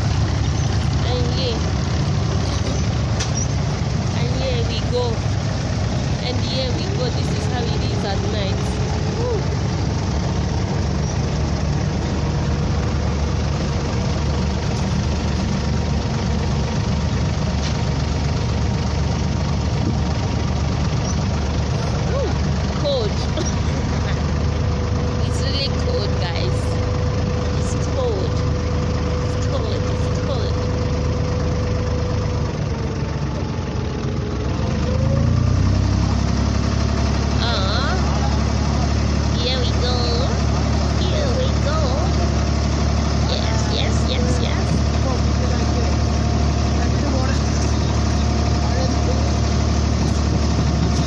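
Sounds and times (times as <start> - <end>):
boat engine drone: 0.0 - 51.0.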